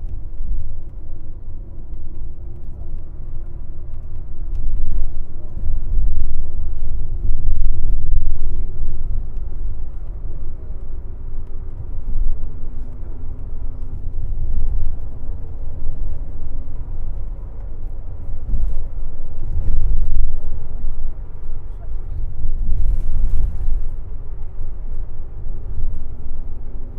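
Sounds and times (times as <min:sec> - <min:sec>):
bus engine and road noise: 0:00.0 - 0:26.9.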